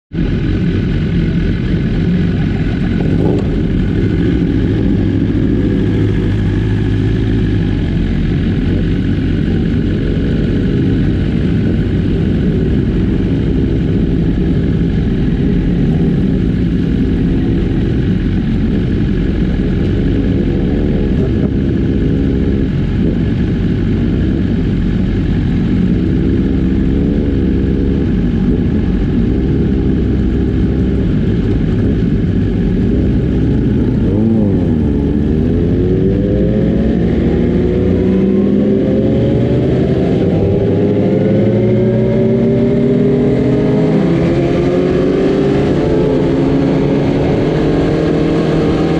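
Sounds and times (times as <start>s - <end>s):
superbike engines revving: 0.2s - 48.9s.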